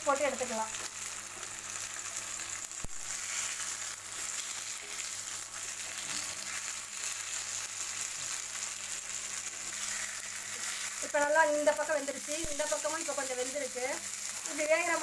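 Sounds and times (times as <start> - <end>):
fish sizzling in a pan: 0.0 - 15.0.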